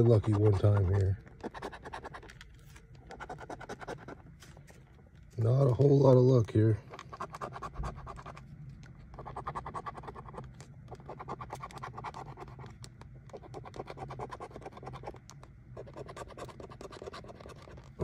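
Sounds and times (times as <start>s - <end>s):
coin scratching lottery ticket: 0.0s - 4.7s, 6.8s - 8.4s, 9.0s - 18.0s.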